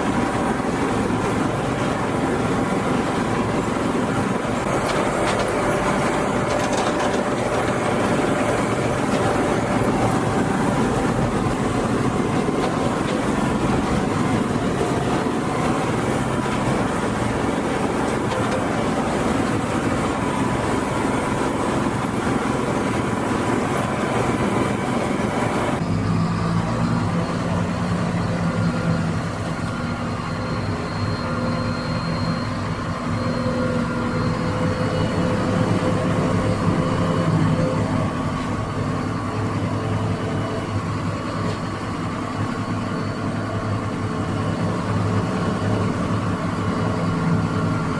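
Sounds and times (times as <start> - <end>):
tractor engine humming: 0.0 - 47.9
wood chipper grinding branches: 0.0 - 47.9.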